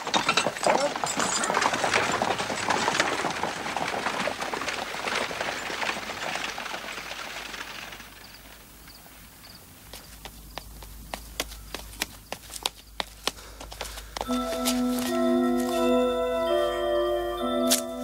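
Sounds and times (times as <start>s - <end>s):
coach wheels rattling: 0.0s - 18.0s
horse hooves clopping: 0.0s - 18.0s.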